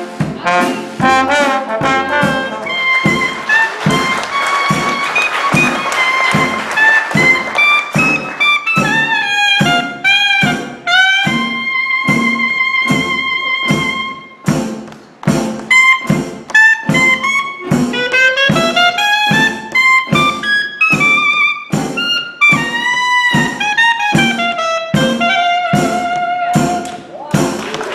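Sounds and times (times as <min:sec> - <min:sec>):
clarinet melody: 0:00.0 - 0:14.6, 0:15.4 - 0:27.1
jazz band playing: 0:00.0 - 0:27.9.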